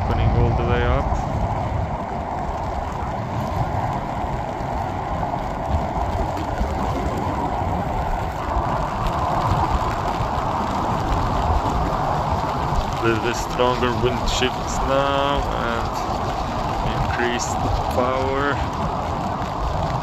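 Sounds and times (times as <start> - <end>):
steady rushing hiss: 0.0 - 20.0
wind buffeting microphone: 0.0 - 20.0.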